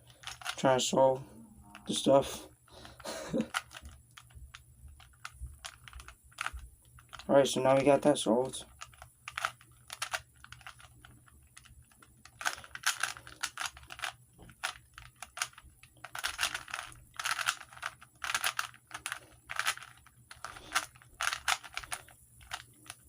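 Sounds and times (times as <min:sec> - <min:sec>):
puzzle cube clicking: 0:00.2 - 0:00.6, 0:02.8 - 0:07.3, 0:08.7 - 0:23.0.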